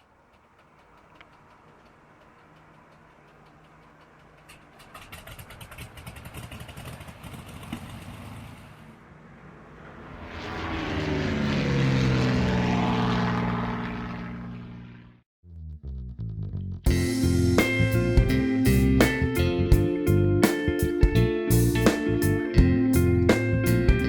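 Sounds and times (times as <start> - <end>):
propeller airplane engine: 0.0 - 15.2, 16.9 - 24.0
propeller airplane passing: 0.0 - 15.2, 16.9 - 24.0.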